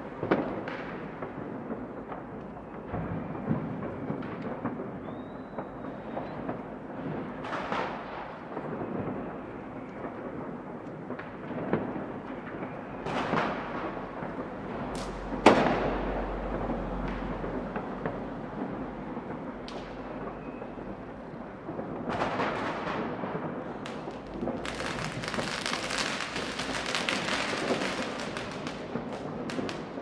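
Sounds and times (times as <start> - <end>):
distant fireworks crackling: 0.0 - 30.0
near firework bangs: 0.2 - 30.0.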